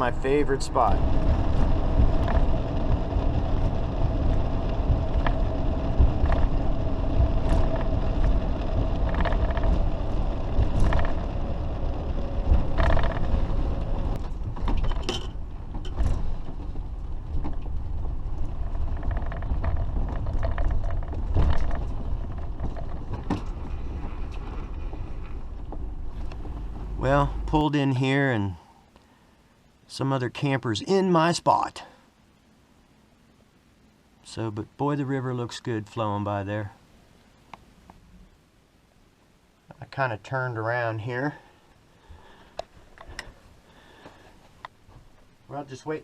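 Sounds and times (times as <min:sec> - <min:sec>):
engine and road rumble: 0:00.0 - 0:30.0, 0:31.9 - 0:46.0
steady whine: 0:00.0 - 0:46.0.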